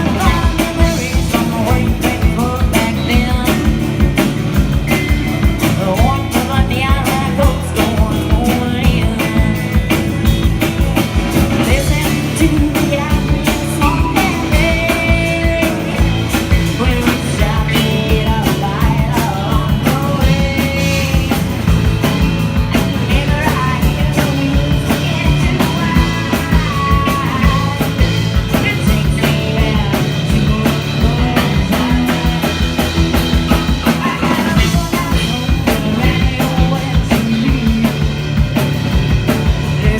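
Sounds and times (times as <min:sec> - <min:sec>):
person singing: 0:00.0 - 0:21.9, 0:22.7 - 0:39.9
live country band playing: 0:00.0 - 0:39.9.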